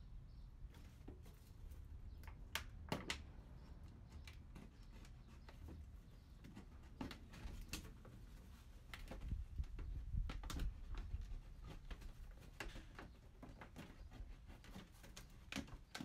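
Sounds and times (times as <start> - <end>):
hands rustling potting soil: 0.5 - 16.0
plastic pots crackling and clicking: 0.6 - 16.0.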